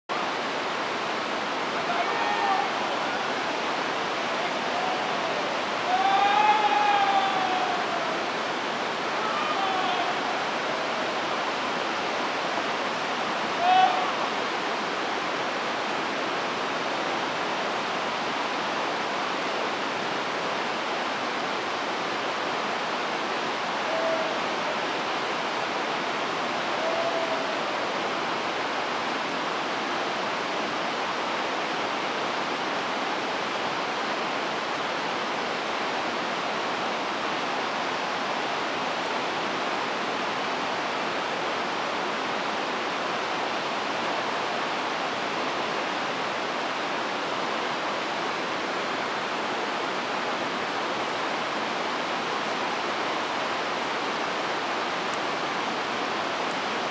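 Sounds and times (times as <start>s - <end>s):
river rapids rushing: 0.1s - 56.9s.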